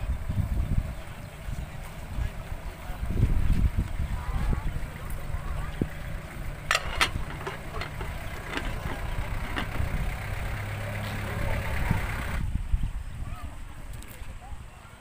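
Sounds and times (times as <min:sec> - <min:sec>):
engine idling: 0:00.0 - 0:12.5.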